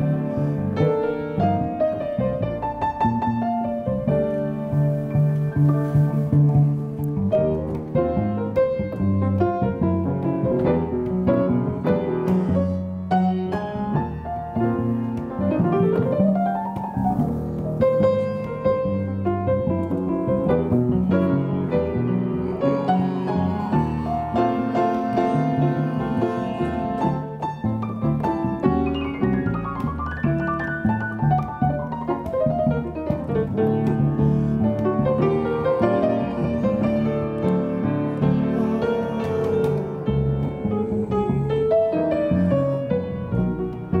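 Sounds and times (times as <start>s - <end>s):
piano-led instrumental music: 0.0s - 44.0s.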